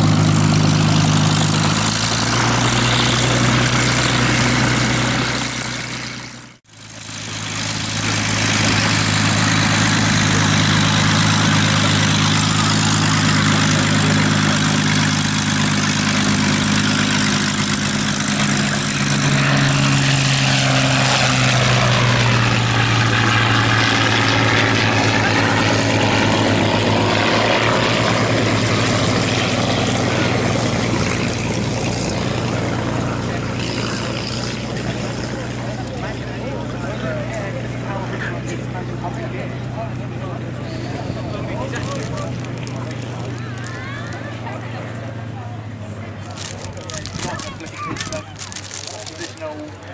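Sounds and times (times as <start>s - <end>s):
piston aero engines droning: 0.0s - 49.9s.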